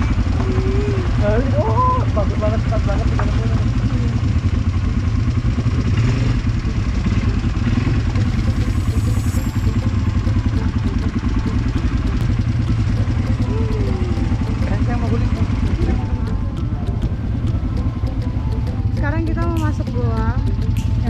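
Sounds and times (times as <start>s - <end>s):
quad bike engine running: 0.0s - 21.0s.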